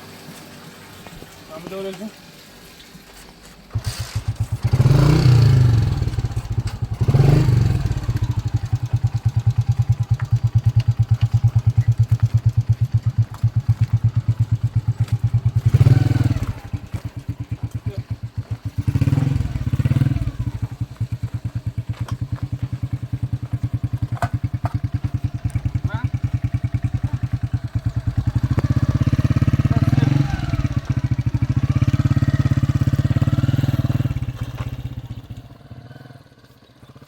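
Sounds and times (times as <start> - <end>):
motorcycle engine revving: 3.7 - 37.0.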